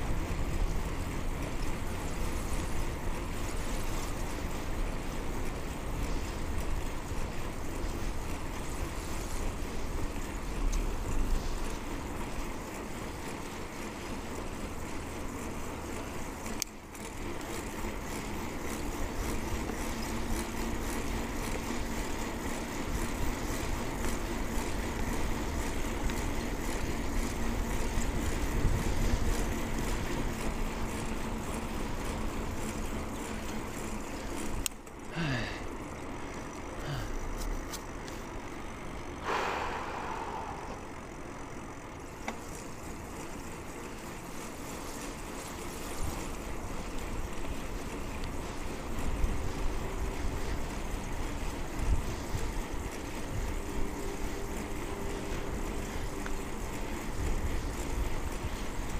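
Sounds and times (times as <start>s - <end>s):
wind and road noise from bicycle: 0.0s - 58.9s.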